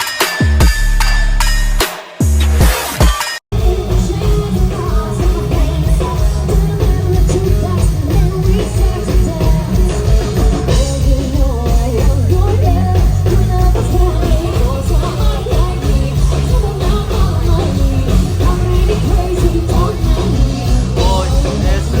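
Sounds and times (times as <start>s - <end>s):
song with singing over a beat: 3.5s - 22.0s.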